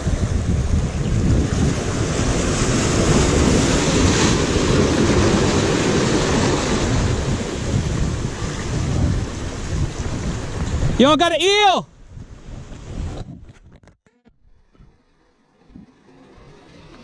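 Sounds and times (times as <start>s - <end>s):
waves breaking into whitewater: 0.0s - 11.9s, 14.8s - 17.0s.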